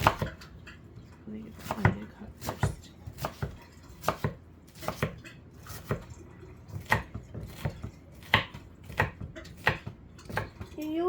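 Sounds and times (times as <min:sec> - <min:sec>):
knife chopping onion on board: 0:00.0 - 0:00.5, 0:01.5 - 0:06.1, 0:06.7 - 0:10.7.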